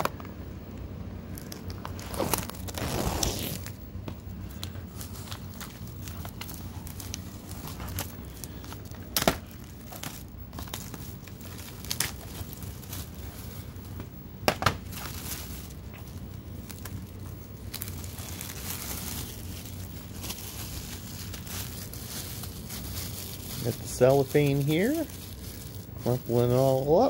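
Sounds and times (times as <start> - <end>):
cellophane crinkling and tearing: 1.3 - 3.8, 4.4 - 14.1, 14.8 - 27.0.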